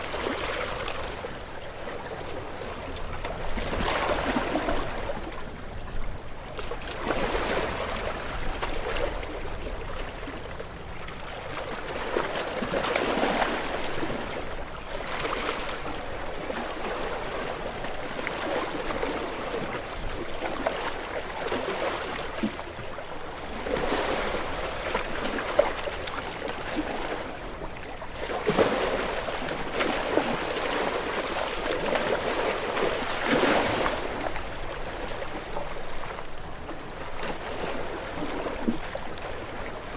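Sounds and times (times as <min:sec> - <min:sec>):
ocean waves breaking on rocks: 0:00.0 - 0:39.9.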